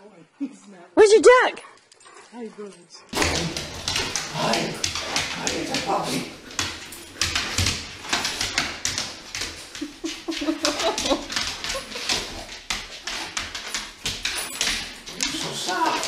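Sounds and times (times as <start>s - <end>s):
dog claws clicking on wood floor: 3.1s - 16.0s.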